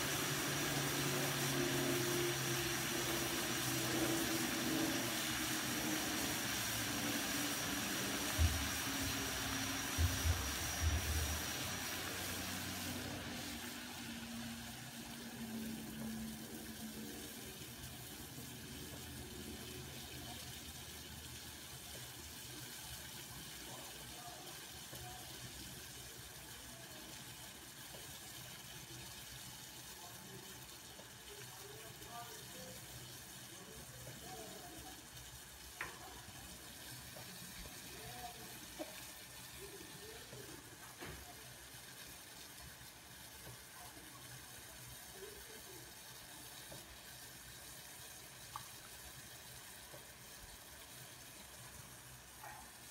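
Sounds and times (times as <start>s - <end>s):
water boiling in a pan: 0.0s - 52.9s.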